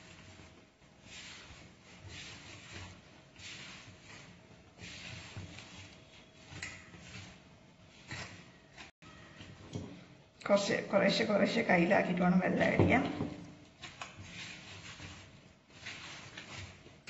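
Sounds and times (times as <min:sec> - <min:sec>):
hand kneading dough in steel bowl: 0:00.0 - 0:17.0.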